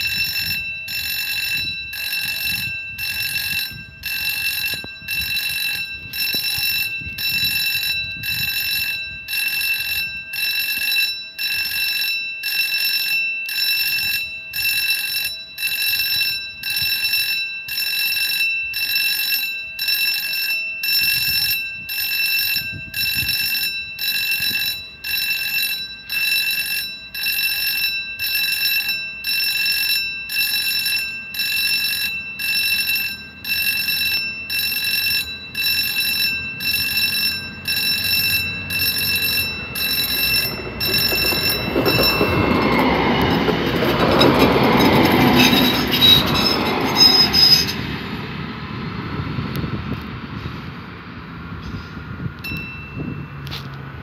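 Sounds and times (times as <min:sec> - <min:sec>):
level-crossing warning bell ringing: 0:00.0 - 0:49.2, 0:52.3 - 0:54.0.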